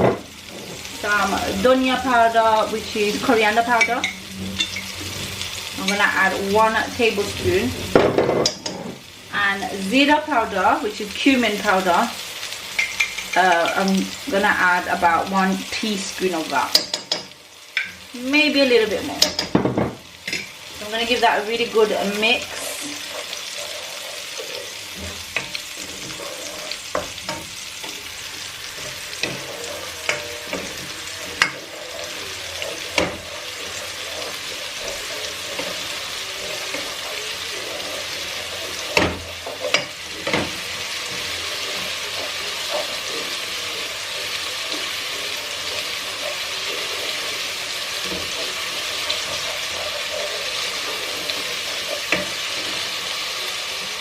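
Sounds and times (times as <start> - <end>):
spatula knocking and scraping pan: 0.0 - 6.5, 7.1 - 9.1, 16.6 - 18.1, 18.7 - 53.1
onions sizzling in hot oil: 0.0 - 54.0.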